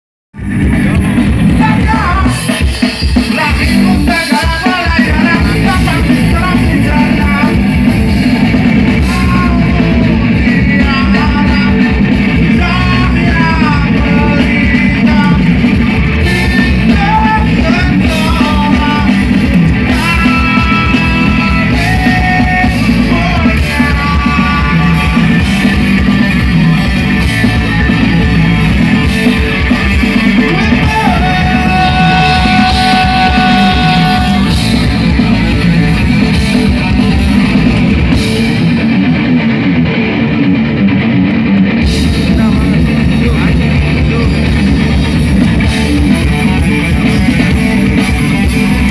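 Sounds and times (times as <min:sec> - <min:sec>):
guitar: 0:00.3 - 0:48.9
loud rock music: 0:00.3 - 0:48.9
person singing: 0:00.4 - 0:38.6, 0:41.9 - 0:48.9.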